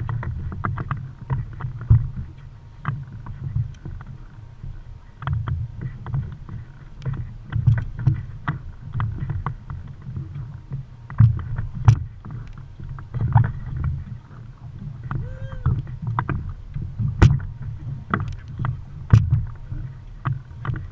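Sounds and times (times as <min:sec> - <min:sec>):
boat knocking: 0:00.0 - 0:20.9
water slapping against boat hull: 0:00.0 - 0:20.9.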